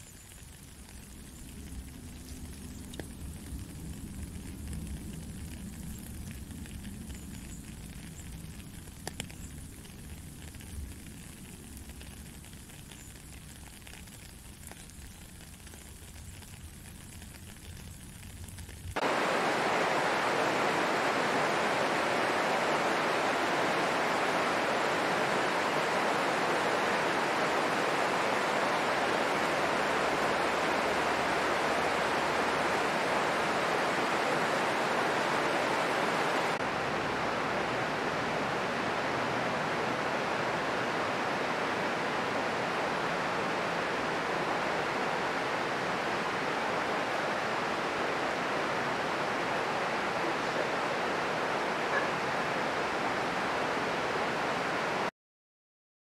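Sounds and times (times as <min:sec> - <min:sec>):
heavy rain falling: 0:00.0 - 0:55.1.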